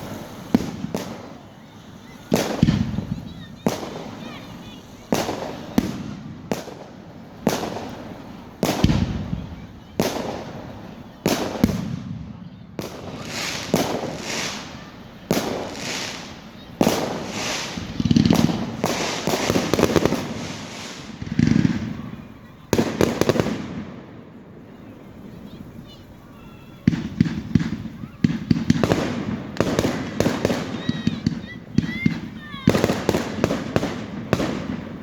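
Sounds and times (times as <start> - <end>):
fireworks rapid crackling: 0.0 - 35.0
fireworks sharp bangs: 0.0 - 35.0.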